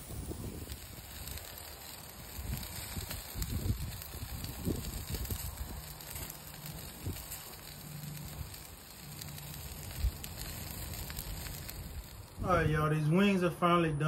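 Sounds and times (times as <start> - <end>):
faint crackles and pops: 0.0 - 13.3
chicken sizzling on a grill: 0.0 - 13.4.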